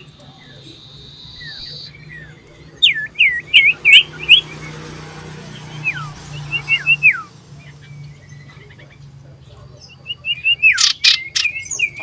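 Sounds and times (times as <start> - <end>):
bird calling with falling notes: 0.0 - 12.0.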